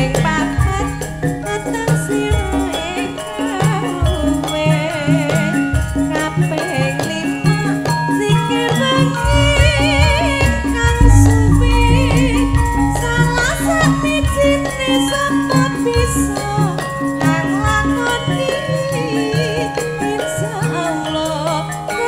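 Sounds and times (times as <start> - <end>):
gamelan ensemble with gongs: 0.0 - 22.0
rhythmic bass and percussion: 0.0 - 22.0
woman singing with vibrato: 0.0 - 22.0.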